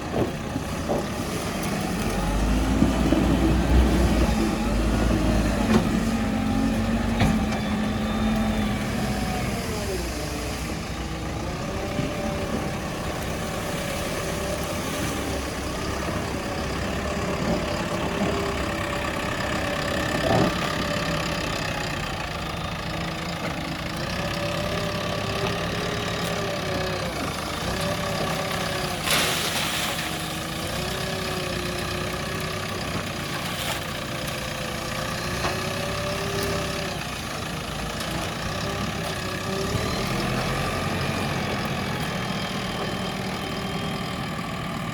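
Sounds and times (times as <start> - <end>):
diesel engine under varying load: 0.0 - 44.9.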